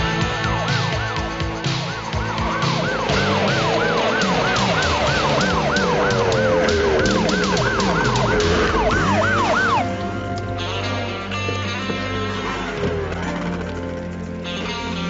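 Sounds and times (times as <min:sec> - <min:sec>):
siren yelping: 0:00.0 - 0:14.0
music playing: 0:00.0 - 0:15.0.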